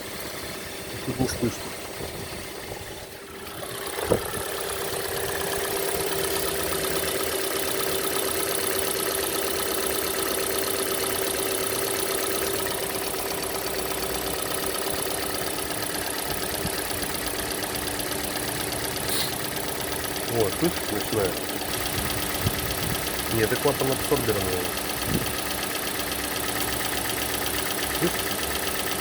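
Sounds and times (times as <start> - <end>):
car engine idling with ticking: 0.2 - 29.0.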